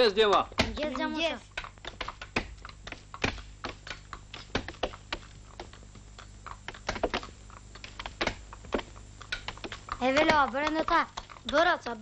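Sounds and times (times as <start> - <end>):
horse hooves on stones: 0.0 - 12.0
footsteps on stony path: 0.2 - 12.0.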